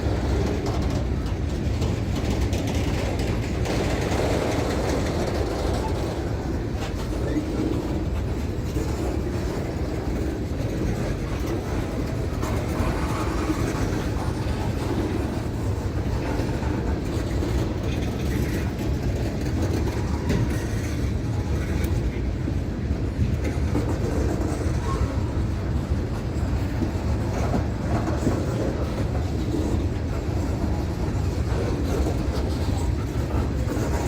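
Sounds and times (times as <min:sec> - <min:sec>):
train rolling along rails: 0:00.0 - 0:34.0.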